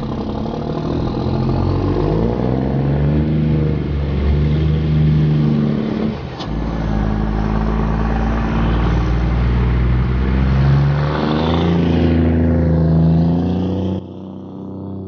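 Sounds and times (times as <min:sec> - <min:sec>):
truck diesel engine under load: 0:00.0 - 0:15.0.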